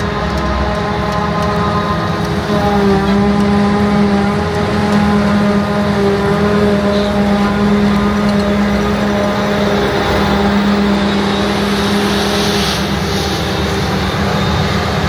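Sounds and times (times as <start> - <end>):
high machine whine: 0.0 - 15.0.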